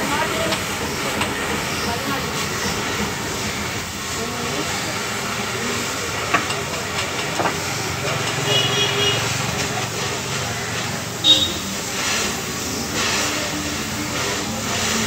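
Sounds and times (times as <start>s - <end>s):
gas welding torch hissing: 0.0s - 15.0s.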